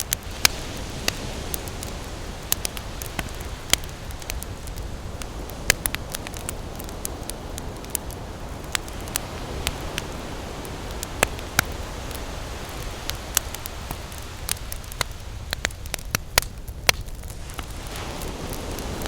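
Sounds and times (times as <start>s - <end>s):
campfire crackling and popping: 0.0s - 19.0s
ocean waves breaking on a beach: 0.0s - 19.0s.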